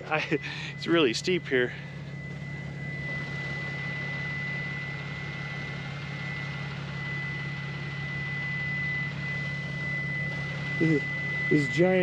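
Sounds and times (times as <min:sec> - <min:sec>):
high warning tone: 0:00.0 - 0:12.0
truck engine idling: 0:00.0 - 0:12.0.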